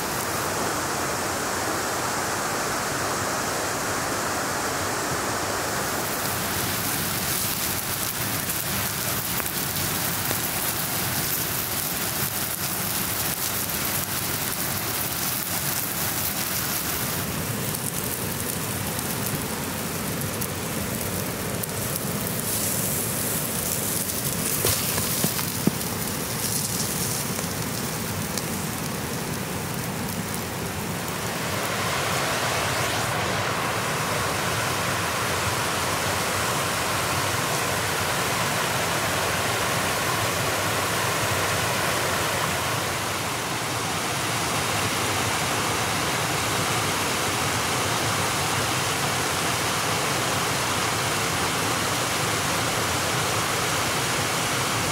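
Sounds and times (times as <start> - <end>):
stream water rushing: 0.0 - 54.9
wood fire crackles: 5.3 - 54.9.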